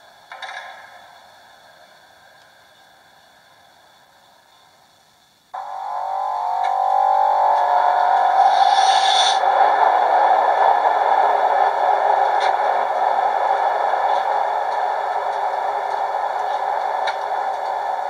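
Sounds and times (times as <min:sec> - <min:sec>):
electric locomotive transformer hum: 0:00.0 - 0:18.0.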